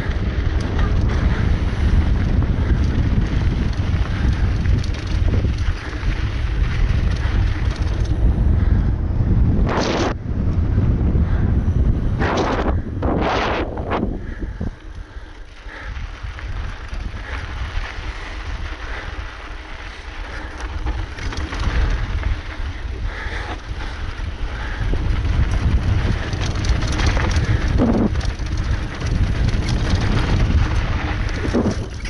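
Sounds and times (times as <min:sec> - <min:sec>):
bike tyres rumbling on trail: 0:00.0 - 0:32.0
wind buffeting microphone: 0:00.0 - 0:32.0.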